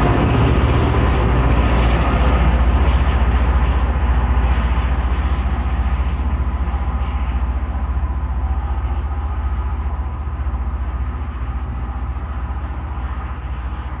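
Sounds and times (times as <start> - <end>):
hum: 0.0 - 14.0
train engines throbbing: 0.0 - 14.0.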